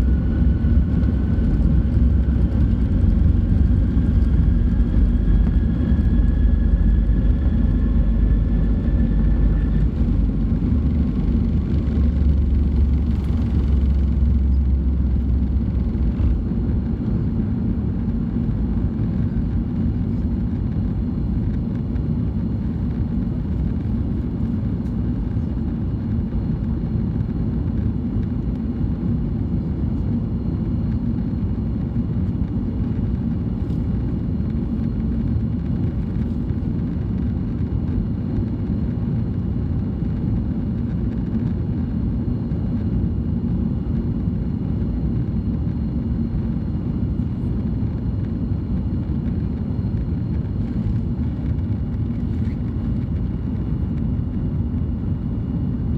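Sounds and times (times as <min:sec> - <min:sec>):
heavy runway rumble: 0:00.0 - 0:55.9
jet engines at takeoff power: 0:00.0 - 0:55.9.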